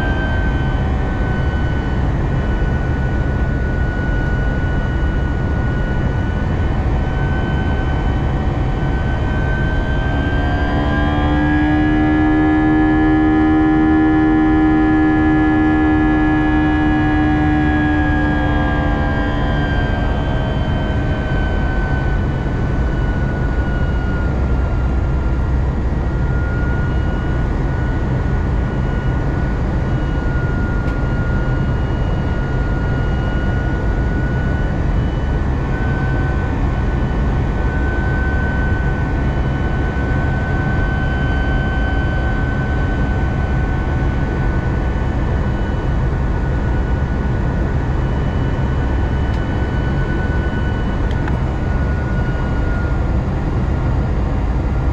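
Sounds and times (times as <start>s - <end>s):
jet engine rumble in cabin: 0.0s - 54.9s.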